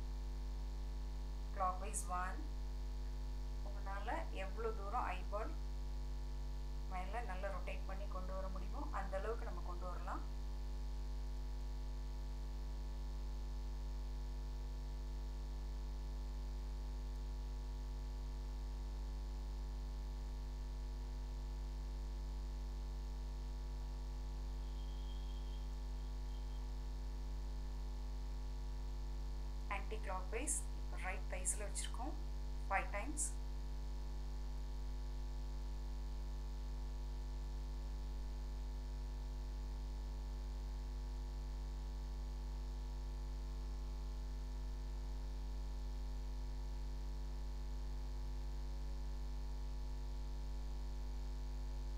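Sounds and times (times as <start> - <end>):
electrical mains hum: 0.0 - 14.1, 20.2 - 47.7.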